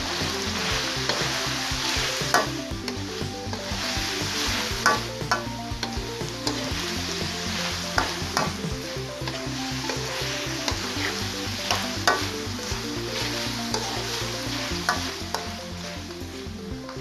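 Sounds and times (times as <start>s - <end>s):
meat sizzling in a pan: 0.0s - 15.9s.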